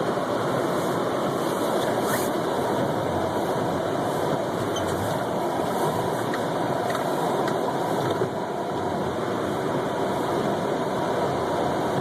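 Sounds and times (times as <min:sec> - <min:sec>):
car engine: 0:00.0 - 0:12.0.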